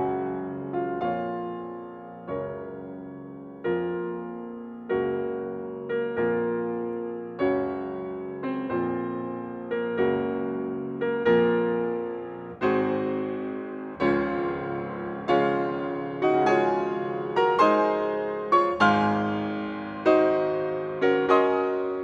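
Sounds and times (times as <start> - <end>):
slow solo piano chords: 0.0 - 22.0.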